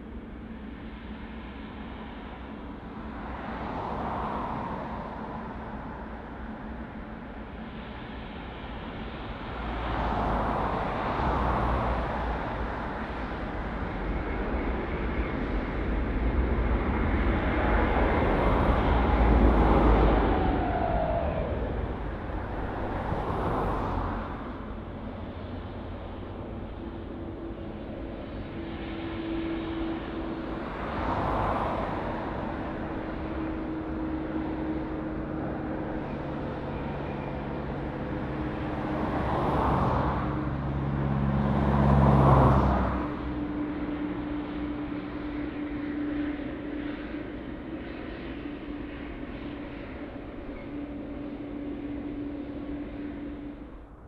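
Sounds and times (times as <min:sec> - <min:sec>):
jet engines rumbling with whine: 0:00.0 - 0:54.0.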